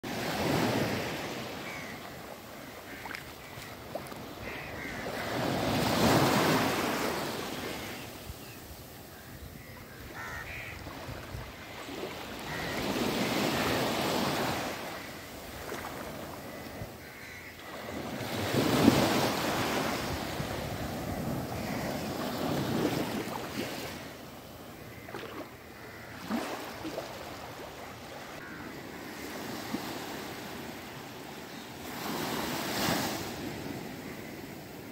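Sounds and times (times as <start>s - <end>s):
small waves breaking on beach: 0.0s - 34.9s.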